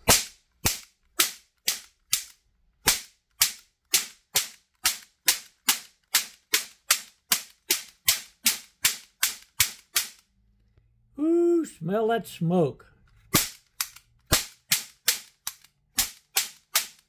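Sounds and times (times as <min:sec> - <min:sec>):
toy cap pistol bangs: 0:00.0 - 0:10.2, 0:13.3 - 0:17.0.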